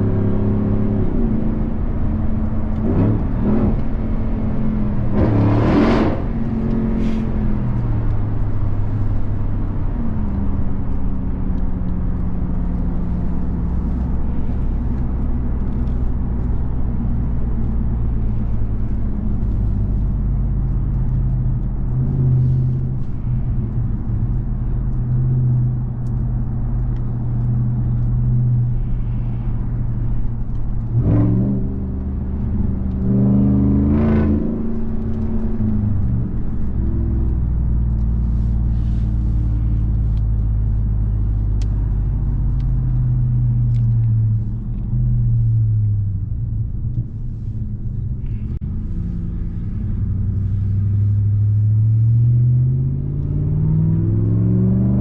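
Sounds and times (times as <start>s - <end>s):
truck engine revving while driving: 0.0s - 46.5s, 48.2s - 55.0s.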